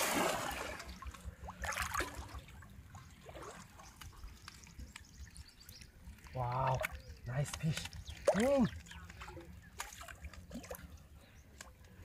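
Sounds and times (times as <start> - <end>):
water splashing from wading: 0.0 - 11.7
water trickling and dripping: 0.0 - 12.0.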